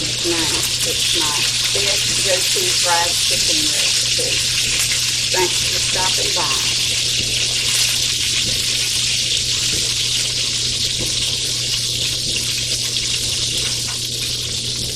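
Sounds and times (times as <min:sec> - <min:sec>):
chicken frying in oil: 0:00.0 - 0:14.9
faint oil crackles: 0:00.0 - 0:14.9.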